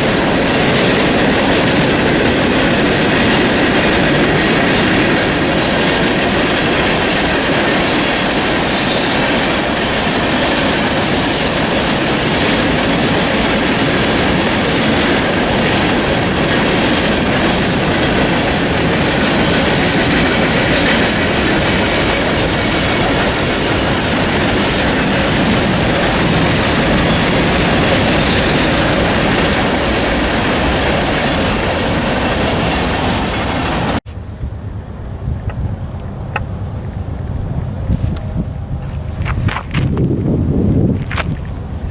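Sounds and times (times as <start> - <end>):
train wheels clacking on rails: 0.0 - 34.5, 35.3 - 41.9
wind noise: 0.0 - 41.9.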